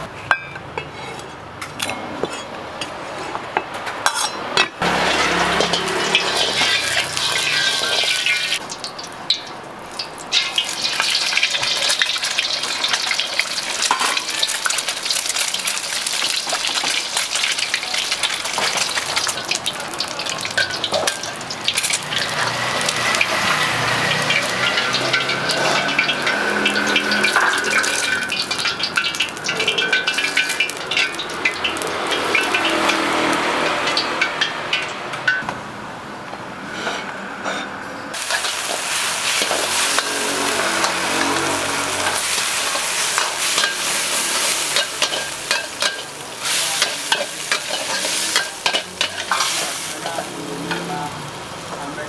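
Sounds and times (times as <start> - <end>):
spatula scraping wok: 0.0 - 9.4, 10.3 - 35.4, 36.6 - 51.2
egg sizzling in hot oil: 4.8 - 34.9, 38.1 - 51.6.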